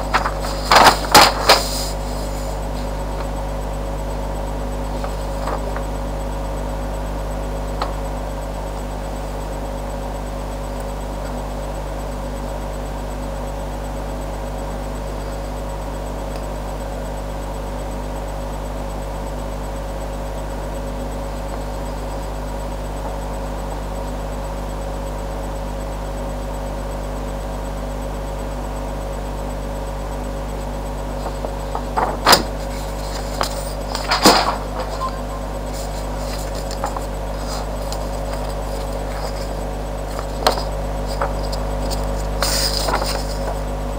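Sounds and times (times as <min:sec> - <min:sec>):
electrical mains hum and hiss: 0:00.0 - 0:43.9.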